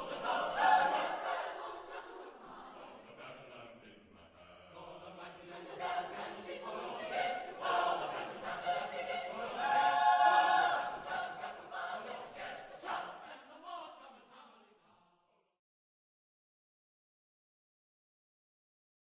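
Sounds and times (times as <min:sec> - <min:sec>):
choir singing: 0:00.0 - 0:15.2.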